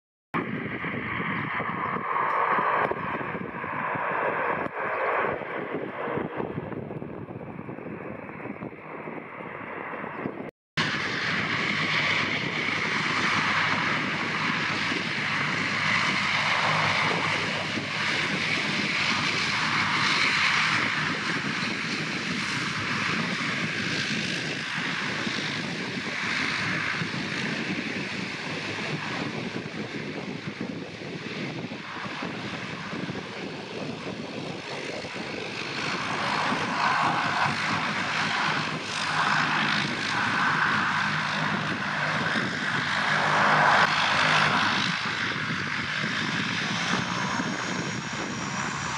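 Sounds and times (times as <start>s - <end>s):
turboprop propeller drone: 0.3s - 48.9s
turbine whine: 0.4s - 48.9s.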